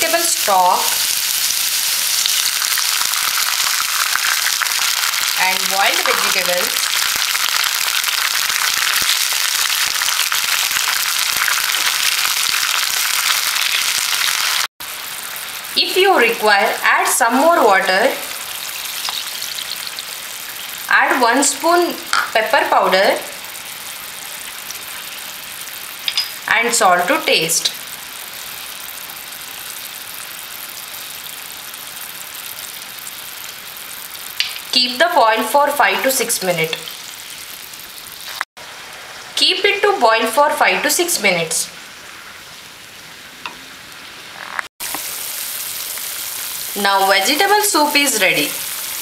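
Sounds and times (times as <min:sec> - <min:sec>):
stock sizzling in a pan: 0:00.0 - 0:49.0.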